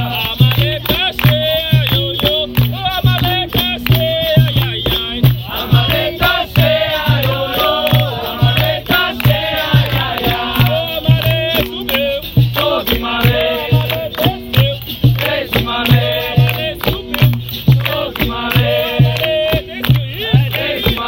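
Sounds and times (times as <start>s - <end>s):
group singing a chant: 0.0s - 21.0s
sharp percussive strikes: 0.0s - 21.0s.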